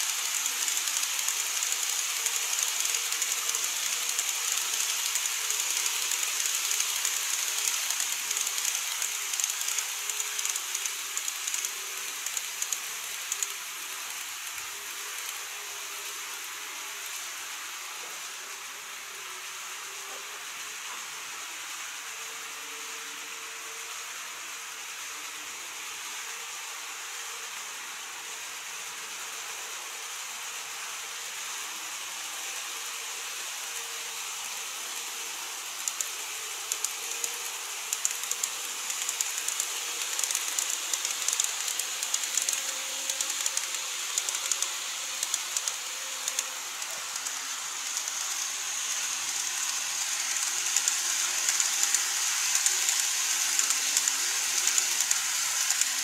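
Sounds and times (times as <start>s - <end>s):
electric train hiss: 0.0s - 56.0s.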